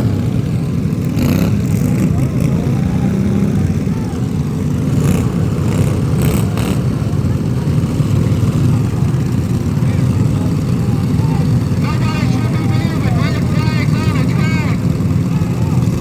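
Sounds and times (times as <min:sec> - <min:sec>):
engine rumbling: 0:00.0 - 0:16.0.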